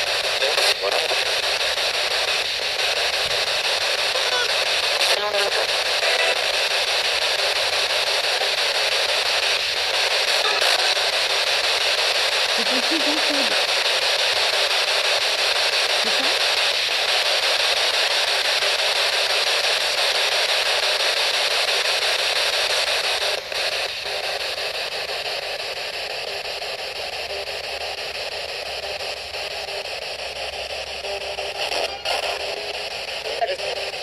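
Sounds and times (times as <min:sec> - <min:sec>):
radio static hiss: 0:00.0 - 0:34.0.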